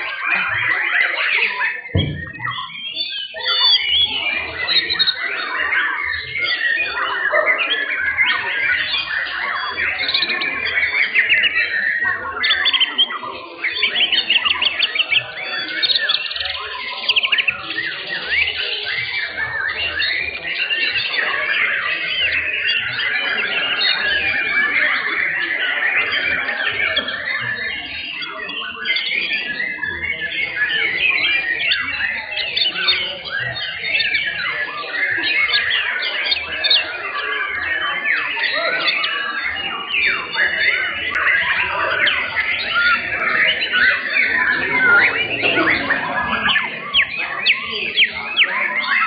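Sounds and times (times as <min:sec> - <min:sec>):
songbirds chorus: 0:00.0 - 0:49.0.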